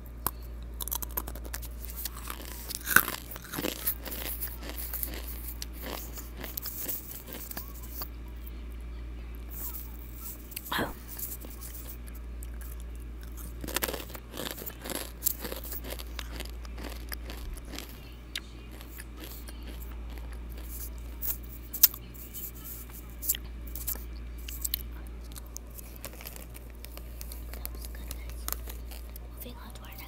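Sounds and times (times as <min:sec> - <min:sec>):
steady low hum: 0:00.0 - 0:30.0
chewing and mouth clicks: 0:00.1 - 0:08.1, 0:09.3 - 0:30.0.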